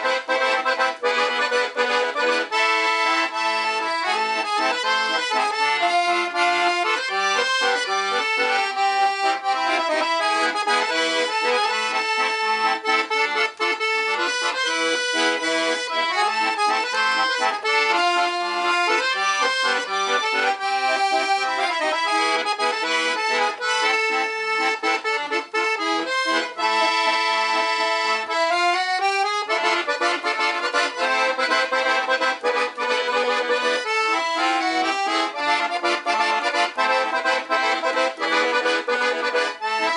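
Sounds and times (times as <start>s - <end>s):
piano accordion playing a tune: 0.0s - 39.9s.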